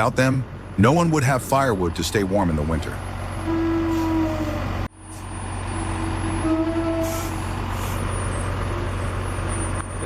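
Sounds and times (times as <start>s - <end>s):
truck engine rumbling with whine: 0.0s - 10.0s.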